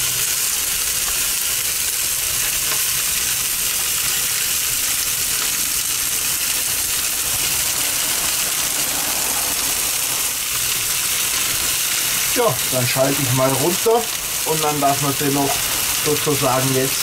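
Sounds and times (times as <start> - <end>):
meat sizzling on grill: 0.0 - 17.0
electric fan running: 3.1 - 17.0.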